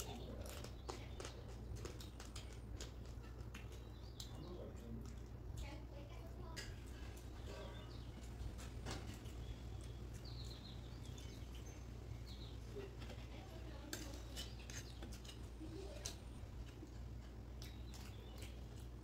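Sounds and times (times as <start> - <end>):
chewing and lip smacks: 0.0 - 5.8, 7.2 - 13.2, 14.0 - 19.0
steady low hum: 0.0 - 19.0.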